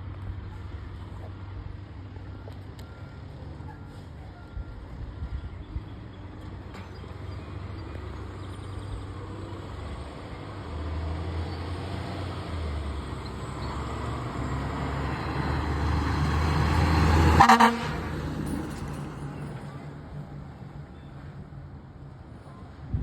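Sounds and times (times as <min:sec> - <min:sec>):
fire truck engine rumbling: 0:00.0 - 0:23.0.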